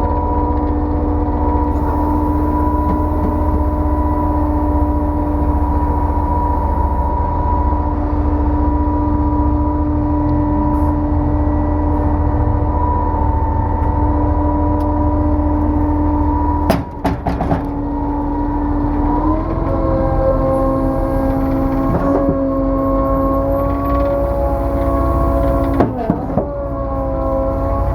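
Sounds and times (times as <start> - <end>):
engine drone: 0.0 - 27.9
hydraulic whine: 0.0 - 27.9.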